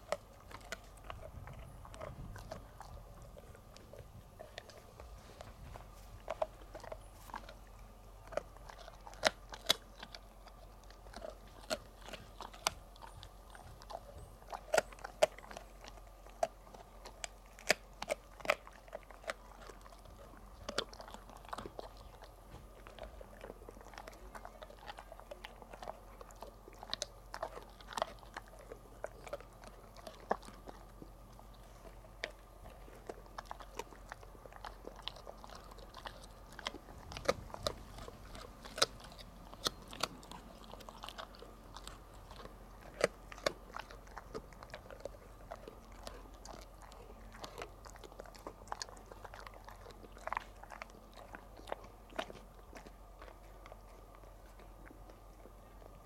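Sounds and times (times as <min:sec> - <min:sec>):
dog chewing crunchy treat: 0:00.0 - 0:56.0.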